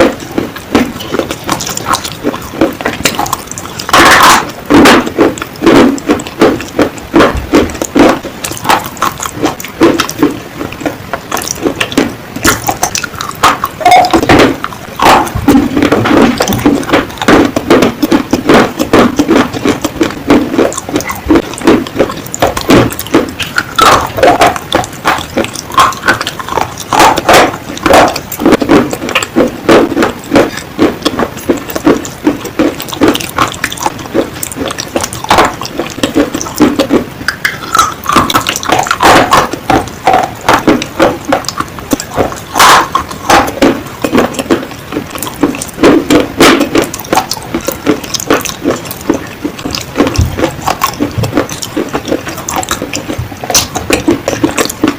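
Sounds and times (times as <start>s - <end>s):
chewing crunchy clay: 0.0s - 54.9s.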